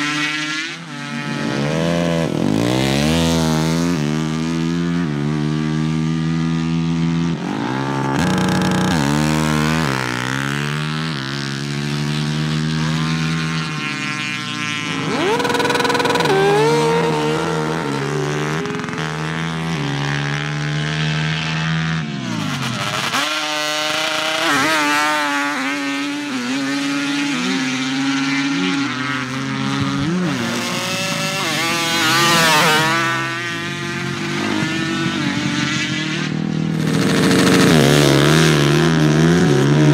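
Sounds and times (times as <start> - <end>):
quad engines passing at full throttle: 0.0 - 39.9.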